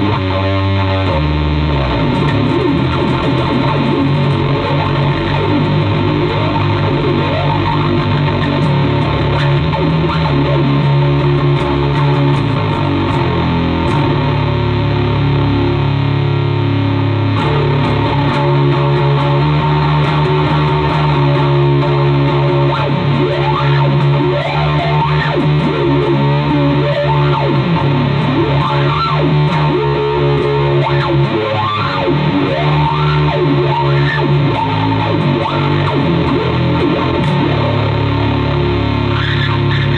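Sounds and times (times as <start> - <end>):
distorted electric bass riffs: 0.0 - 39.9.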